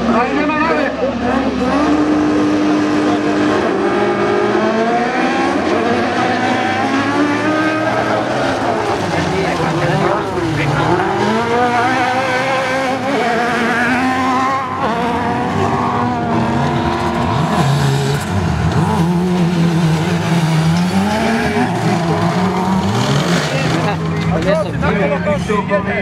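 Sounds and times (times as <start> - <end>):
buggy engines revving: 0.0 - 26.0.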